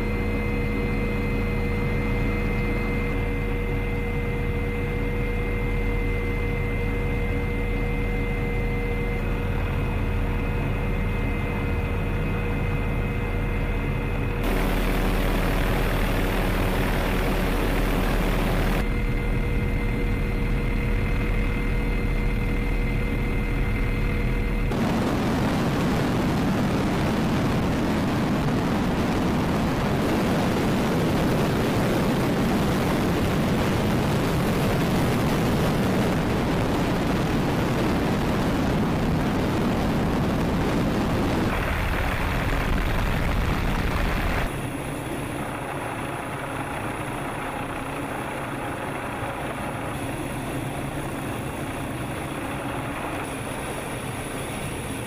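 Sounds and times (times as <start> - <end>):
helicopter engine and rotor noise: 0.0 - 55.0.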